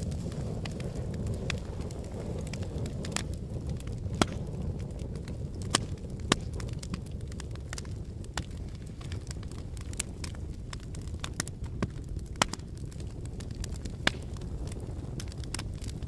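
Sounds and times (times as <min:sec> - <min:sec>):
low rumble of flames: 0:00.0 - 0:16.0
sharp fire pops: 0:00.0 - 0:16.0
wood fire crackling: 0:00.0 - 0:16.0.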